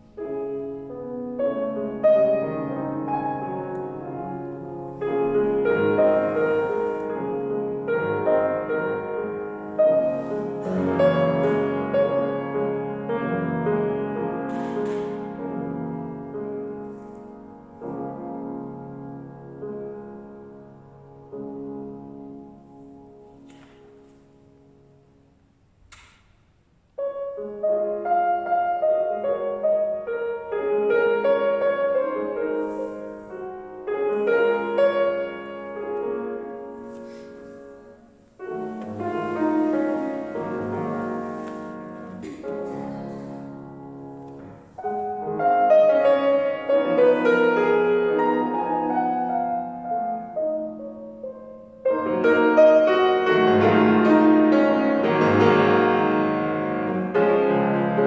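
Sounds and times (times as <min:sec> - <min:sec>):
grand piano classical music: 0:00.0 - 0:58.0.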